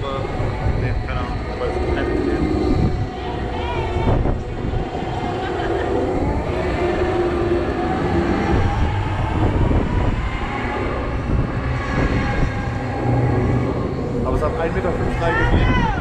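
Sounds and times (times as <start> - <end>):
fairground ride rumble: 0.0 - 16.0
humming tone drifting in pitch: 0.0 - 16.0.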